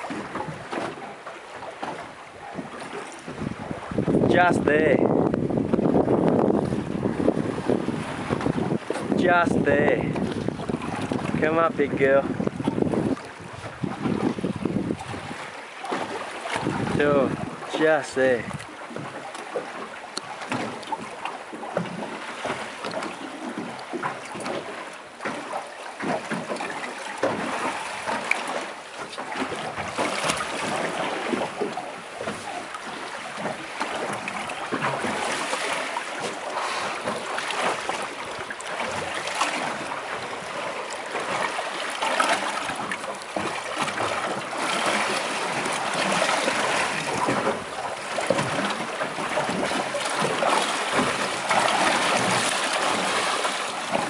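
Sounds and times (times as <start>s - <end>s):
water lapping against boat hull: 0.0s - 54.0s.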